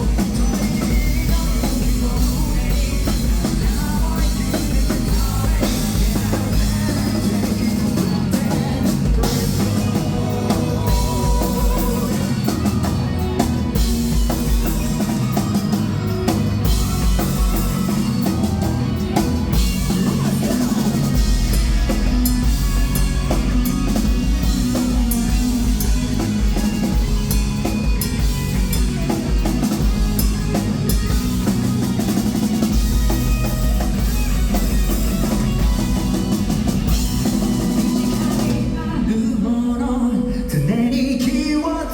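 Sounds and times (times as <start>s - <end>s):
bass drum: 0.0s - 38.7s
live rock band playing: 0.0s - 40.0s.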